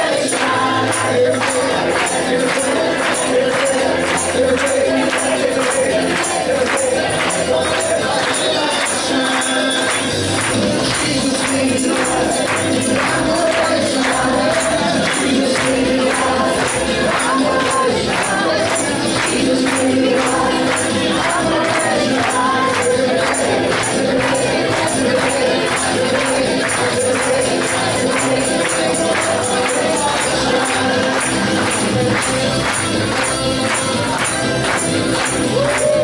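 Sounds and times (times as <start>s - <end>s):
group of voices singing: 0.0s - 36.0s
instrumental backing: 0.0s - 36.0s
tambourine beat: 0.0s - 36.0s.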